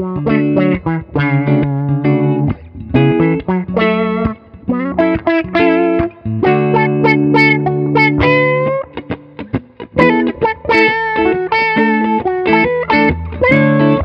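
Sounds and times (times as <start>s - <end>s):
auto-wah guitar single-note lines: 0.0s - 14.0s
electric guitar holding chord: 0.0s - 14.0s.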